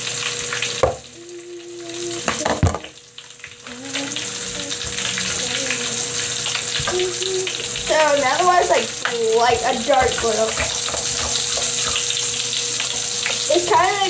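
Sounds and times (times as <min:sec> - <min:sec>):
bath crackles popping in water: 0:00.0 - 0:14.0.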